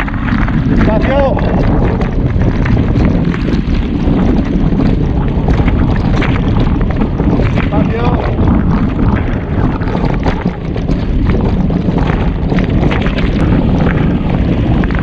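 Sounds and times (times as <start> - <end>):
bike rattling over bumps: 0.0 - 15.0
tyres rumbling on dirt: 0.0 - 15.0
wind buffeting microphone: 0.0 - 15.0.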